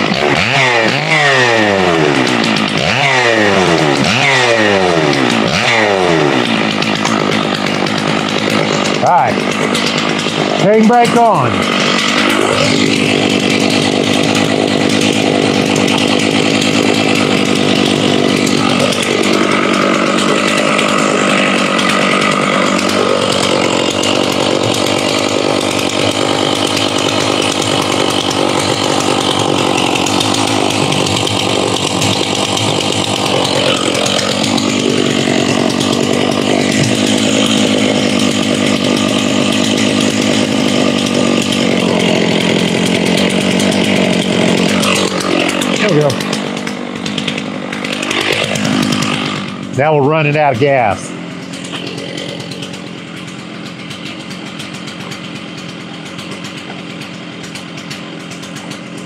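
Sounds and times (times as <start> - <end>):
chainsaw running: 0.0 - 59.0.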